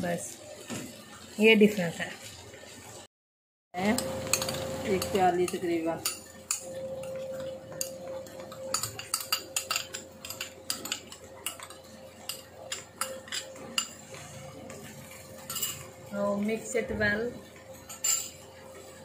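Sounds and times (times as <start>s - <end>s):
meat frying: 0.0s - 3.1s, 3.8s - 19.0s.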